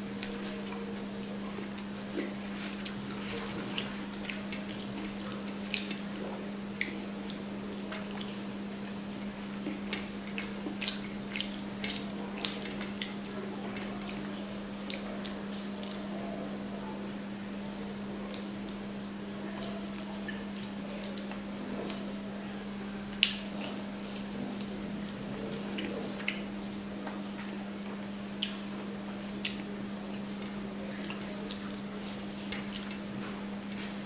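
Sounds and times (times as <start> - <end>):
steady low hum: 0.0 - 34.0
wet chewing and lip-smacking: 0.1 - 16.4, 18.3 - 22.1, 23.0 - 28.8, 29.4 - 34.0.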